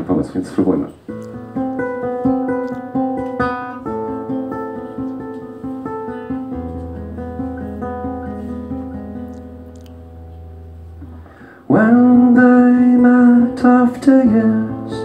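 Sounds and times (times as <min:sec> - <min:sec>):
fingerpicked acoustic guitar: 0:01.0 - 0:15.0.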